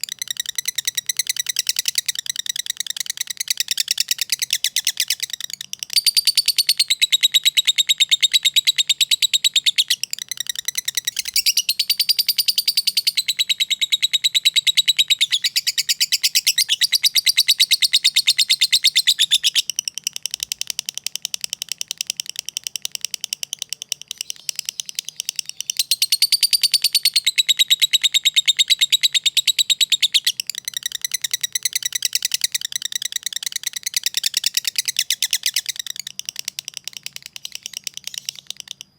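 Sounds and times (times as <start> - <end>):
lovebird trilling: 0.0 - 38.9.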